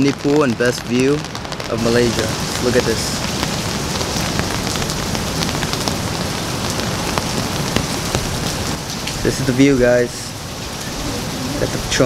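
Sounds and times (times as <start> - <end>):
individual raindrops ticking: 0.0 - 12.0
steady rain falling: 0.0 - 12.0.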